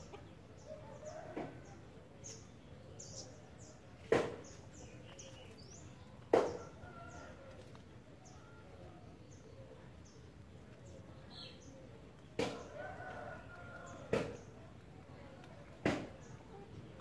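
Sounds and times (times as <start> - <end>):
small birds chirping: 0.0 - 7.4, 8.1 - 17.0.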